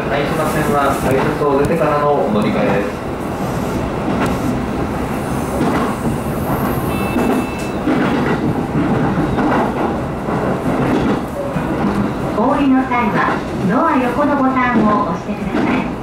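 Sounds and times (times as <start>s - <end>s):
train rumble: 0.0s - 16.0s
wheels clickety-clack on rails: 0.0s - 16.0s.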